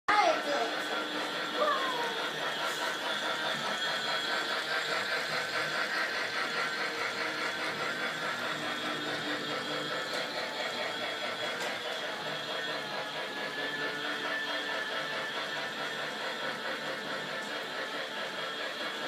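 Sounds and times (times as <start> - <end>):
toy train motor whirring: 0.1 - 19.0
toy train rattling: 0.1 - 19.0.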